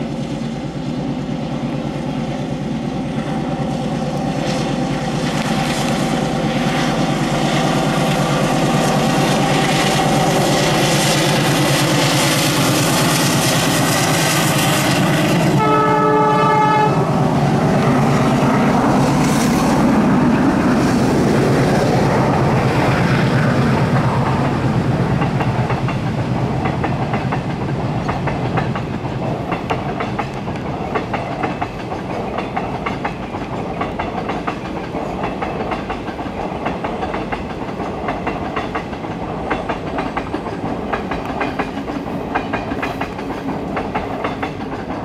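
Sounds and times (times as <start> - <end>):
diesel locomotive engine drone: 0.0 - 45.0
train coaches rumbling: 0.0 - 45.0
wheels clacking over rail joints: 0.3 - 45.0.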